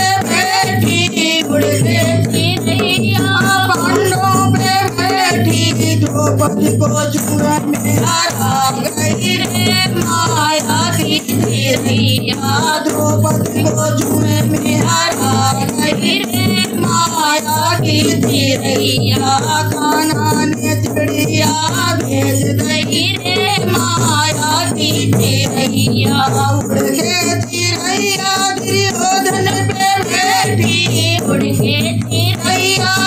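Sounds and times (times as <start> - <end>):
hand drum: 0.0 - 33.0
rattling percussion: 0.0 - 33.0
woman singing: 0.0 - 33.0.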